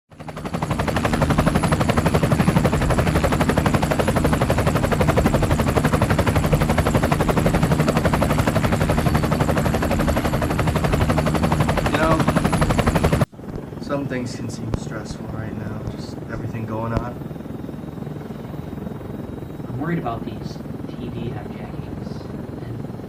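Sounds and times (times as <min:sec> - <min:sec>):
helicopter rotor chopping: 0:00.1 - 0:23.0.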